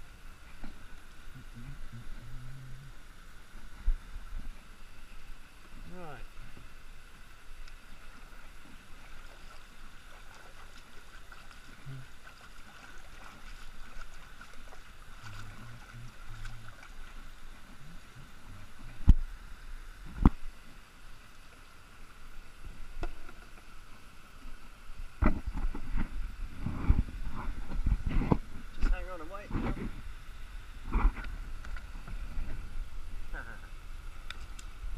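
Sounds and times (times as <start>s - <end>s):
faint water noise: 0.0s - 34.9s.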